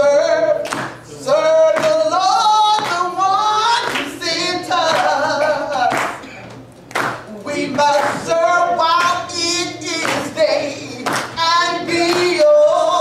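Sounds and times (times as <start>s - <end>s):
woman singing gospel song: 0.0s - 6.4s, 7.3s - 13.0s.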